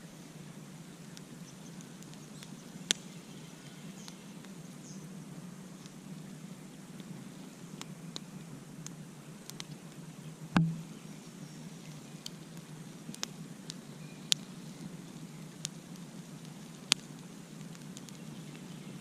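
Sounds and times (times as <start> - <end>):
steady low hum: 0.0 - 19.0
campfire pops and snaps: 1.0 - 4.6, 5.8 - 11.0, 11.9 - 19.0.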